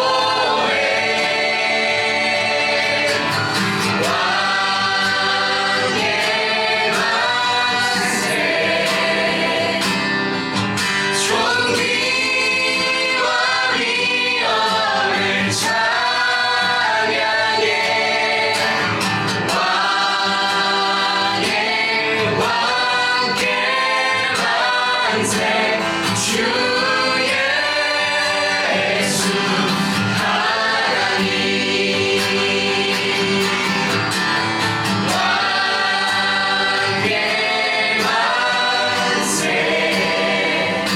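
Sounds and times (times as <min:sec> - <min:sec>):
group singing: 0:00.0 - 0:40.9
worship band playing: 0:00.0 - 0:40.9.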